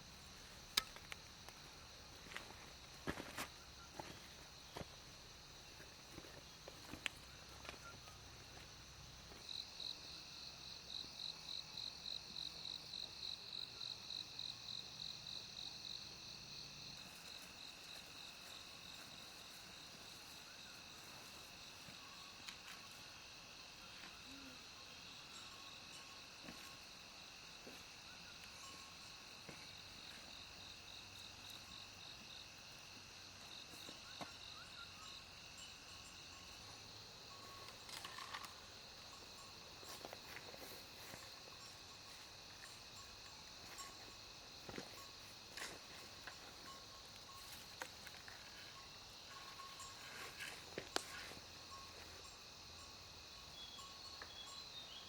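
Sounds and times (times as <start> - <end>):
insects chirping in pulsing trill: 0.0 - 55.0.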